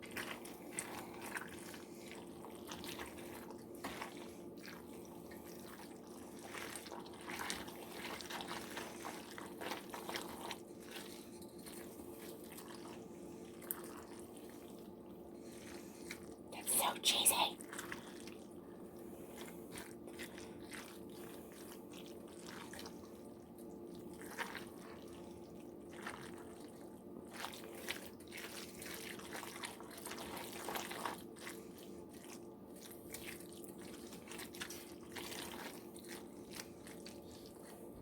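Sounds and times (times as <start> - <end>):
spoon stirring wet food: 0.0 - 16.4, 19.2 - 38.0.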